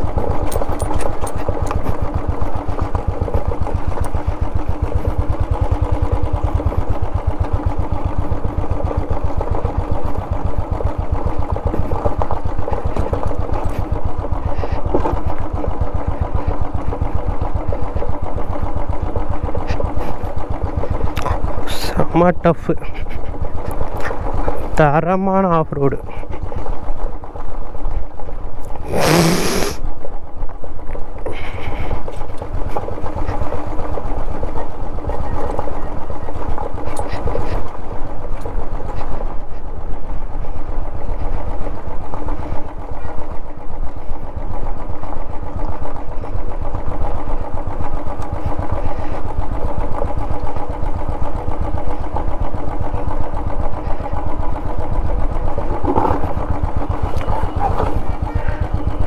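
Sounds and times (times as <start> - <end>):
motorcycle engine running low revs: 0.0 - 59.0.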